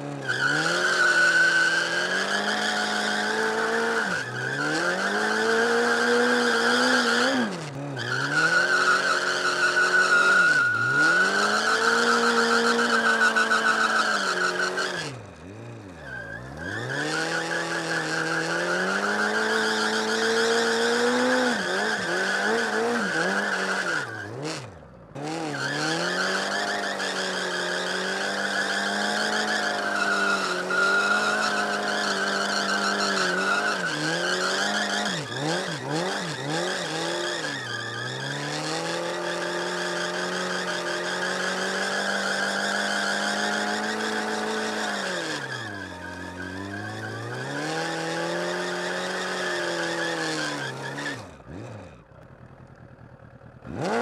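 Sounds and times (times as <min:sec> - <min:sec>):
motorcycle engine revving: 0:00.0 - 0:54.0
tyre squealing on concrete: 0:00.2 - 0:15.2, 0:16.0 - 0:24.5, 0:25.6 - 0:51.6.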